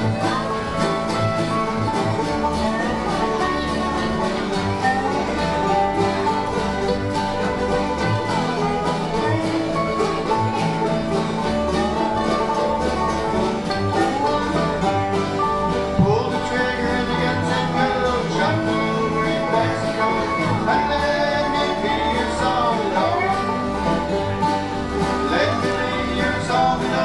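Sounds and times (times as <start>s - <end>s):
bluegrass string band playing: 0.0s - 27.0s.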